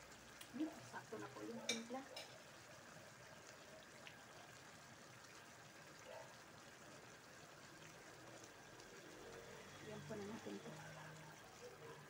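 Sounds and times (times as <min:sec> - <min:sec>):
stew simmering faintly: 0:00.0 - 0:12.0.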